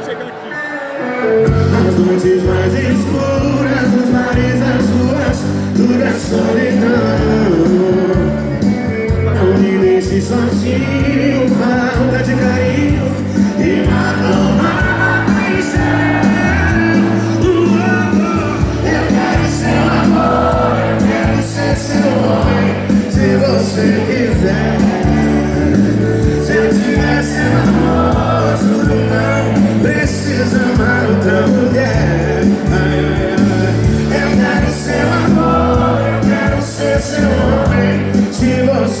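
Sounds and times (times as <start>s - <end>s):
live band playing: 0.0s - 39.0s
person singing: 0.5s - 39.0s
bass and drum beat: 1.5s - 39.0s.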